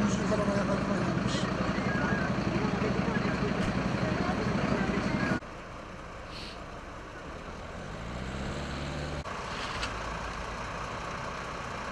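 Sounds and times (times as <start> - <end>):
diesel engines idling: 0.0 - 11.9.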